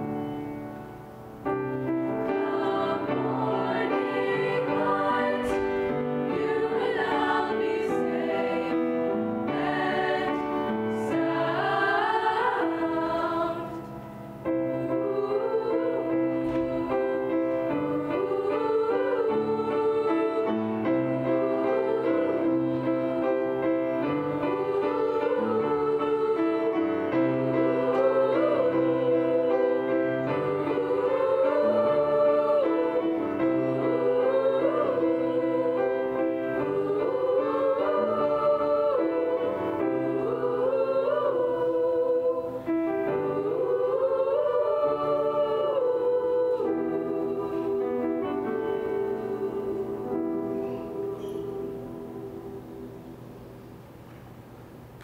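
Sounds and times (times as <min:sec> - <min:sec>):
piano chords: 0:00.0 - 0:55.0
children's chorus singing: 0:02.2 - 0:14.0, 0:14.6 - 0:53.0.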